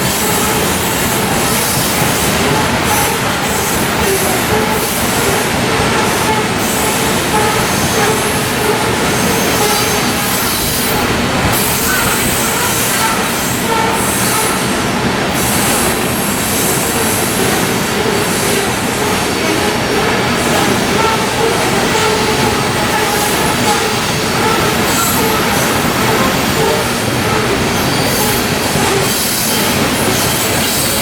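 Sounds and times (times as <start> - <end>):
faint wheel squeal: 0.0 - 14.8, 18.4 - 31.0
freight train rolling past: 0.0 - 31.0.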